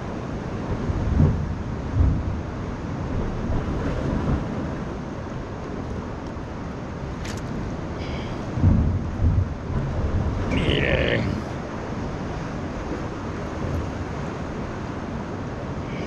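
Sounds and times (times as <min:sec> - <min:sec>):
sea surf on rocks: 0:00.0 - 0:16.0
wind buffeting microphone: 0:00.0 - 0:16.0.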